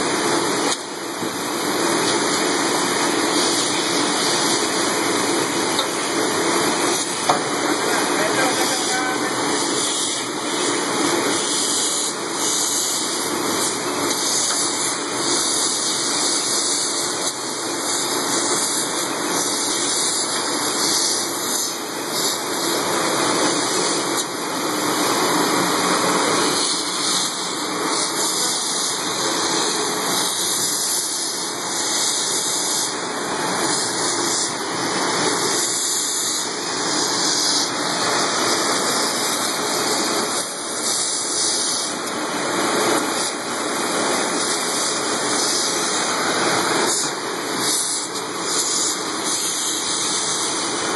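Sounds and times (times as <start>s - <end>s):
machine noise: 0.0s - 50.9s
water spraying from nozzles: 0.0s - 50.9s.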